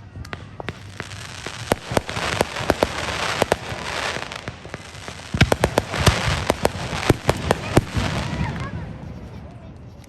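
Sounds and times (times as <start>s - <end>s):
crackling hiss: 0.0s - 10.0s
fireworks bangs and pops: 0.0s - 10.0s.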